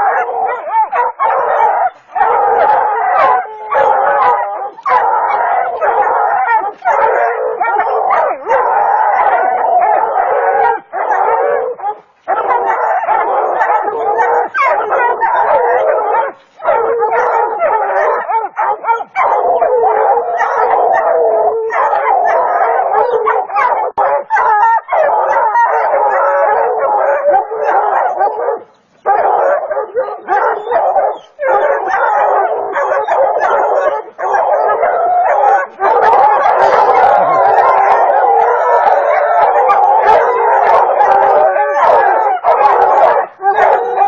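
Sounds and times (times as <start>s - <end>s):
hounds baying and barking: 0.0s - 44.0s.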